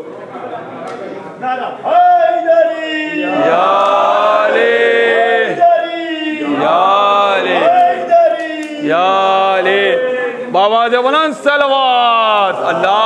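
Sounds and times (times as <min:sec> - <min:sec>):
man chanting melodically: 0:01.9 - 0:13.0.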